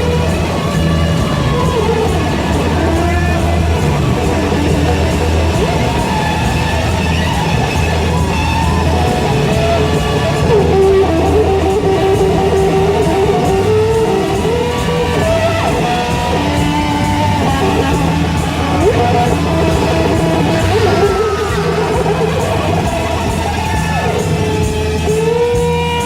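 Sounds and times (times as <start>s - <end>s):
bass drone: 0.0s - 26.0s
electric guitar sliding notes: 0.0s - 26.0s.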